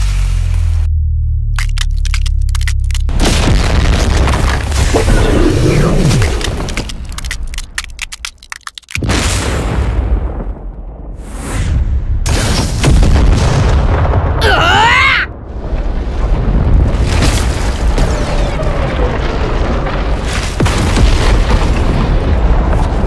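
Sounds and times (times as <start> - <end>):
rumble of explosions: 3.0 - 7.5, 9.0 - 23.0.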